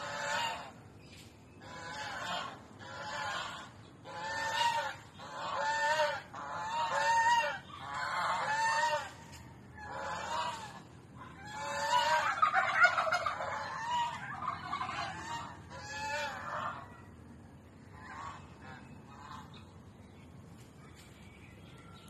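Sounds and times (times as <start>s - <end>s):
guinea fowl calling: 0.0s - 17.1s, 17.8s - 22.0s.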